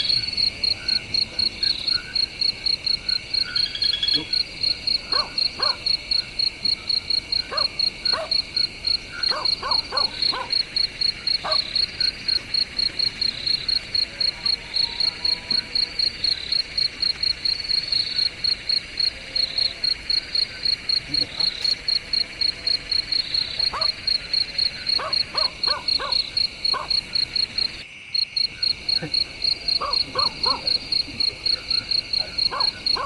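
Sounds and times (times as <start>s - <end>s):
high insect drone: 0.0s - 33.0s
insects chirping: 0.0s - 33.0s
dogs barking: 3.1s - 27.8s, 28.6s - 33.0s.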